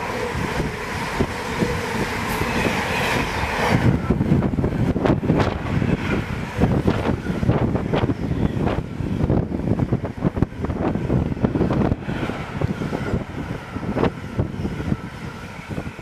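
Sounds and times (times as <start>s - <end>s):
train wheels rumbling on rail: 0.0s - 16.0s
wind buffeting microphone: 0.0s - 16.0s.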